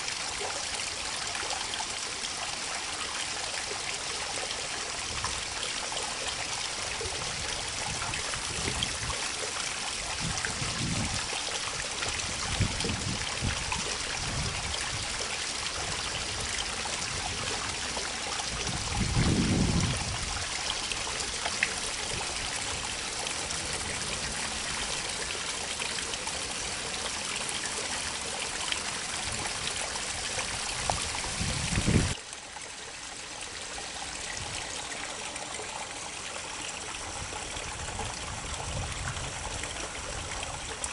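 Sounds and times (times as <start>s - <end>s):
water flowing into river: 0.0s - 40.9s.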